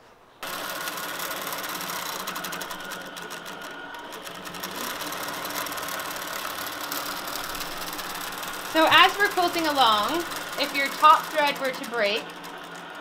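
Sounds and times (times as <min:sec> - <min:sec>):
motor hum: 0:00.4 - 0:13.0
quilting machine needle chatter: 0:00.4 - 0:13.0.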